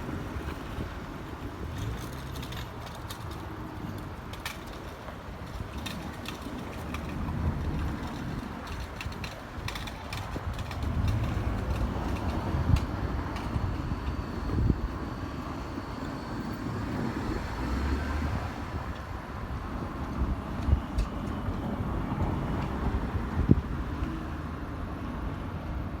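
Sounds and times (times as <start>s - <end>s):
train rumbling slowly: 0.0s - 26.0s.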